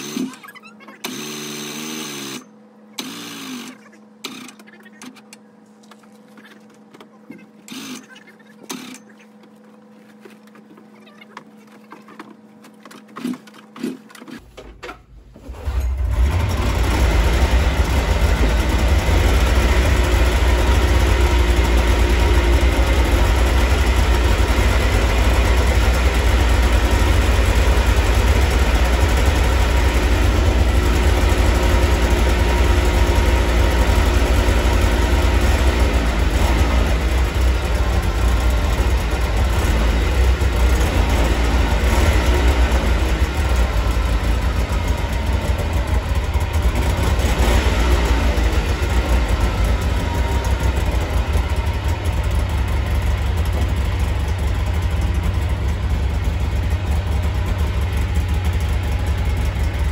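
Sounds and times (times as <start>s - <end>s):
snowmobile engine starting and idling: 0.0s - 5.3s, 13.1s - 59.9s.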